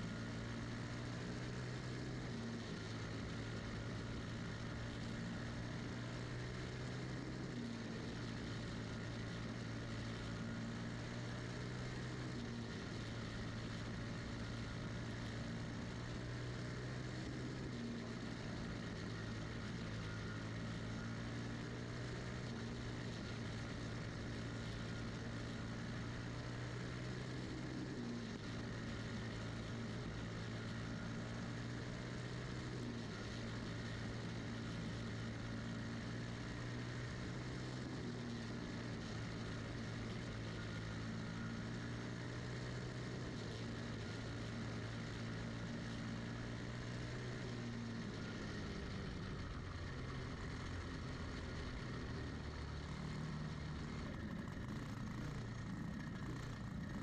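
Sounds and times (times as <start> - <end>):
kart engine running hard: 0.0 - 57.0.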